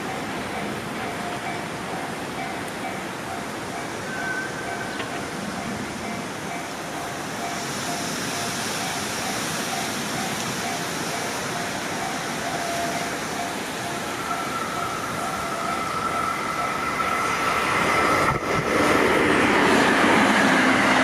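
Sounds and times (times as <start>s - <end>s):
level crossing warning bell: 0.0s - 17.7s
constant rushing noise: 0.0s - 21.0s
high hiss of approaching train: 0.0s - 21.0s.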